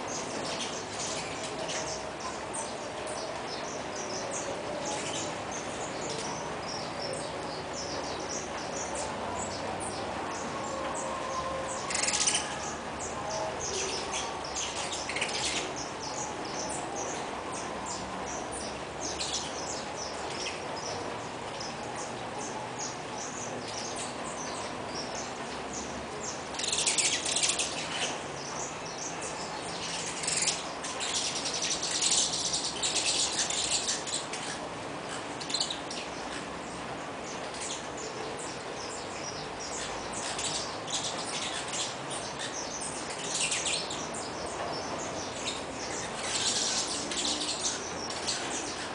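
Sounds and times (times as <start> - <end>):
finches chirping: 0.0 - 48.9.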